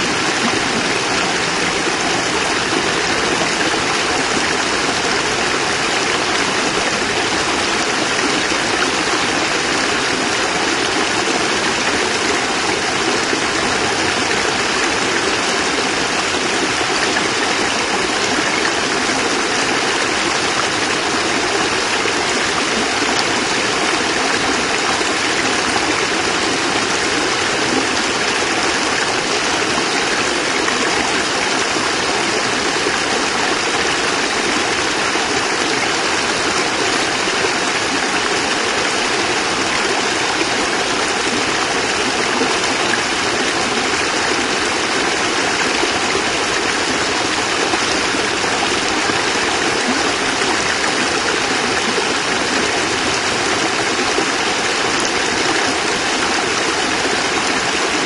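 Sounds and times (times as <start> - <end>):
water splashing over rocks: 0.0 - 58.0.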